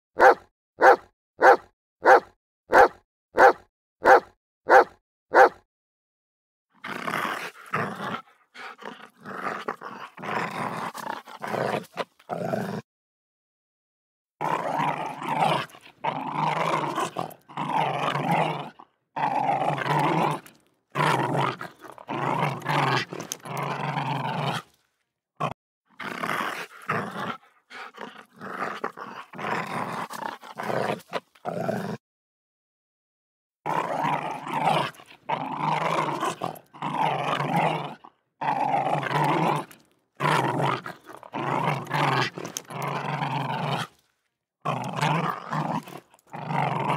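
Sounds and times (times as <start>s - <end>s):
dog growling and snarling: 0.2s - 5.6s, 6.8s - 12.9s, 14.4s - 32.0s, 33.6s - 46.9s.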